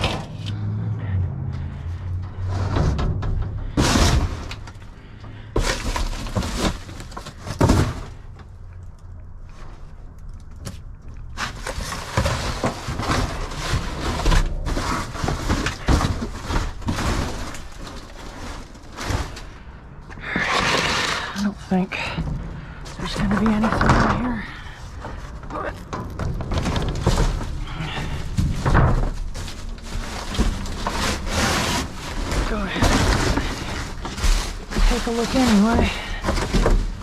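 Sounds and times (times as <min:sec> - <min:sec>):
debris knocking and banging: 0:00.0 - 0:00.8, 0:01.6 - 0:08.5, 0:11.4 - 0:37.0
rattling and scraping: 0:00.0 - 0:37.0.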